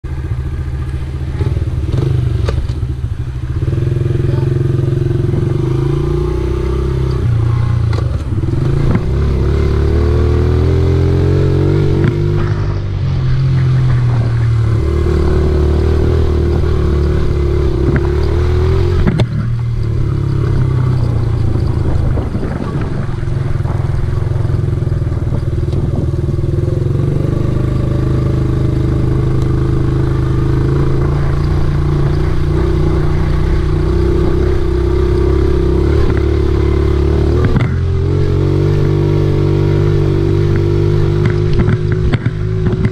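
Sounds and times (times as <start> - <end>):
dirt bike engine revving: 3.6 - 23.1, 25.9 - 42.9.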